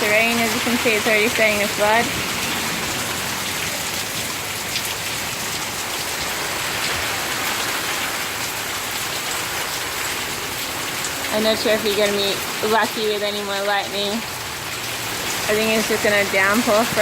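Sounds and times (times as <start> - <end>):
heavy rain on ground: 0.0 - 17.0
water dribbling from gutter: 0.0 - 17.0.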